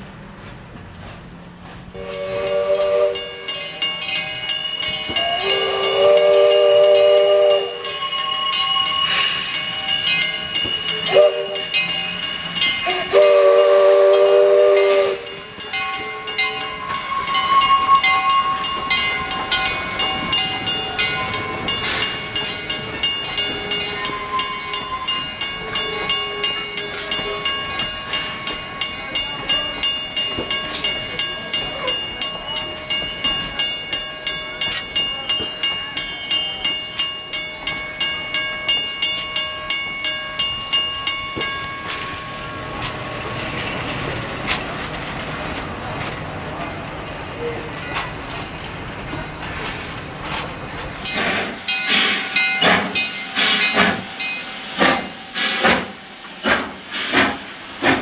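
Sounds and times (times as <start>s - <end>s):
train wheels clicking over rail joints: 0.0s - 58.0s
steam locomotive chime whistle: 2.0s - 44.0s, 51.0s - 57.2s.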